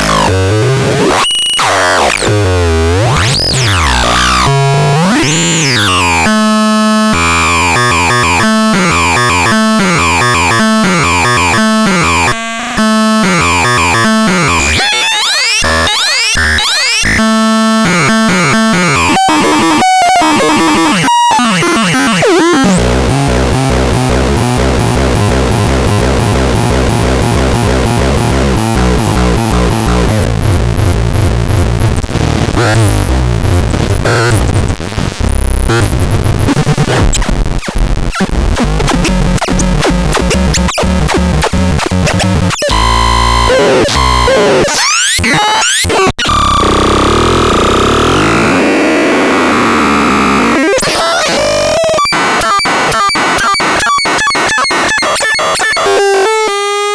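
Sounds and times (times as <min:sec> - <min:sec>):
distorted synthesizer tones: 0:00.0 - 0:56.9.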